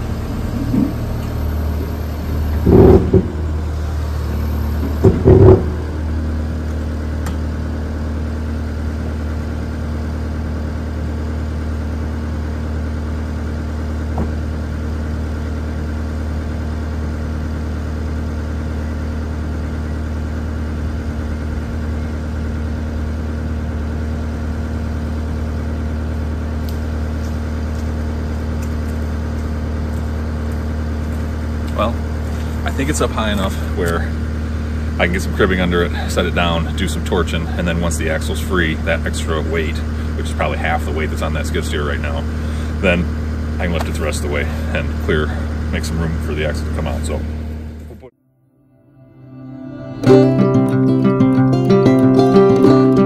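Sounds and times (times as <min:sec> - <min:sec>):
diesel engine running: 0:00.0 - 0:48.1, 0:48.8 - 0:53.0.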